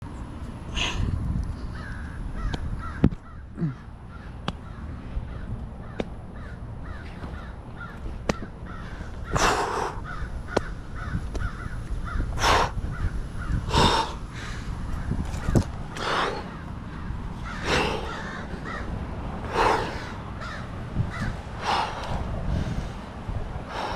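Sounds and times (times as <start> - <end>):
crows cawing: 1.7 - 22.2.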